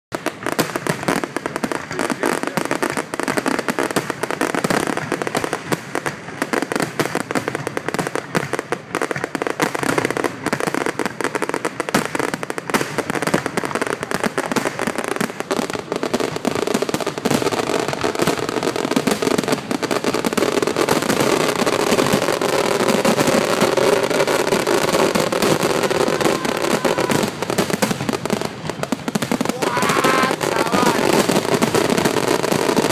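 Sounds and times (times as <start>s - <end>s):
fireworks bangs and crackling: 0.1s - 32.9s.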